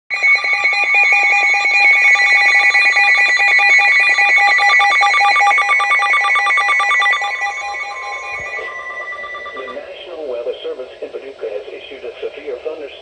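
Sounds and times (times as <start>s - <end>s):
electronic alert alarm tones: 0.1s - 11.2s.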